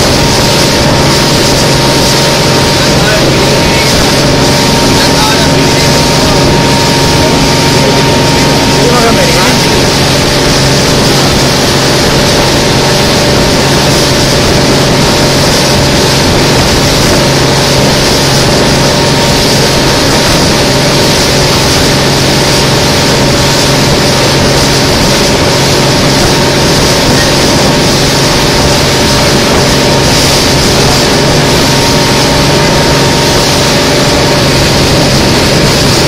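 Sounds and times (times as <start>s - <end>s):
boat engine running: 0.0s - 36.0s
rushing water: 0.0s - 36.0s.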